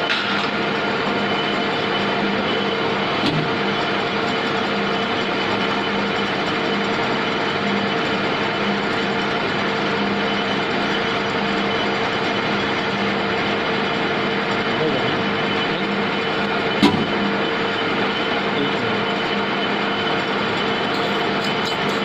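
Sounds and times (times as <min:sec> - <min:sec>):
lathe running: 0:00.0 - 0:22.0.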